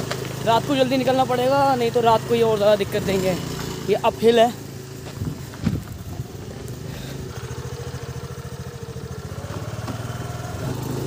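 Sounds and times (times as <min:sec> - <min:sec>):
scooter engine droning: 0:00.0 - 0:11.0.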